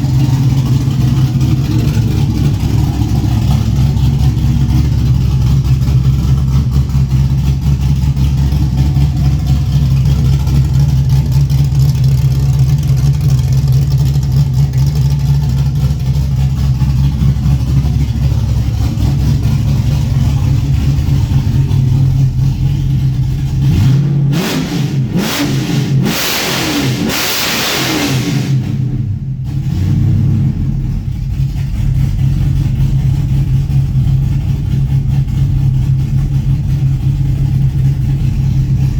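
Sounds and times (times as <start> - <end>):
car engine idling: 0.0 - 38.9
car engine revving: 0.0 - 38.9.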